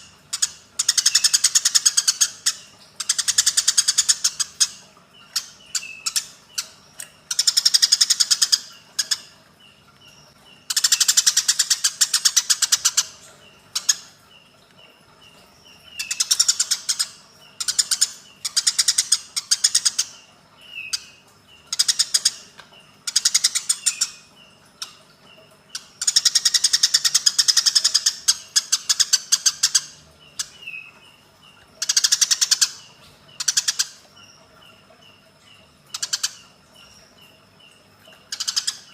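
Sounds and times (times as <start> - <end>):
sparrow chirps: 0.0 - 38.9
sparrows chattering: 0.0 - 38.9.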